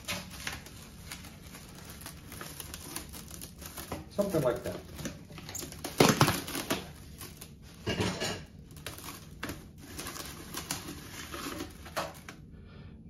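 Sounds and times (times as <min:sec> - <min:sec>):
plastic wrap crinkling: 0:00.0 - 0:12.5.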